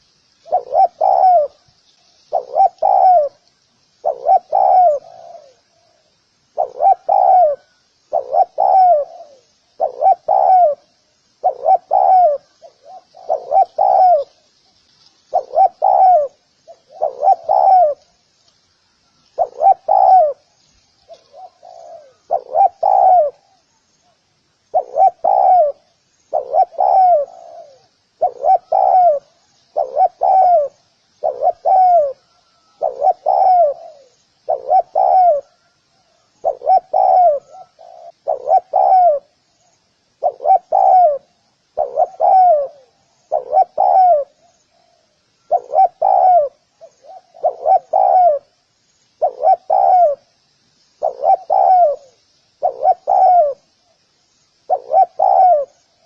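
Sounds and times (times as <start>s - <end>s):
dove cooing: 0.0s - 1.7s, 2.3s - 14.5s, 15.3s - 18.2s, 19.3s - 39.4s, 40.1s - 48.6s, 49.2s - 50.3s, 51.0s - 53.8s, 54.7s - 56.0s
small birds chirping: 0.0s - 56.0s.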